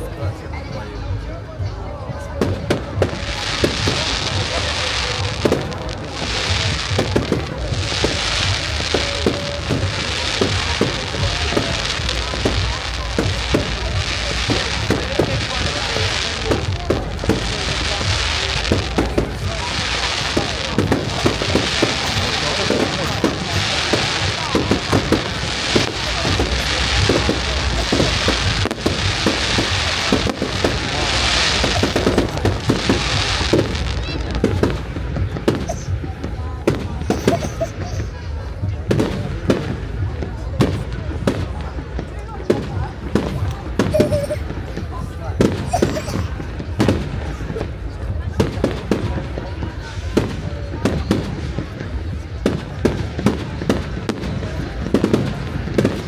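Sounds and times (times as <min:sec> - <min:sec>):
fireworks fizzing crackle: 0:00.0 - 0:56.0.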